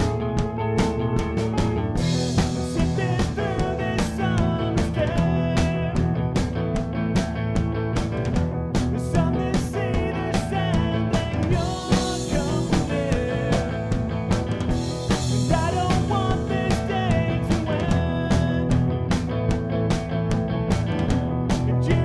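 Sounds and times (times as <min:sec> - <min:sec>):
rock music: 0:00.0 - 0:22.0.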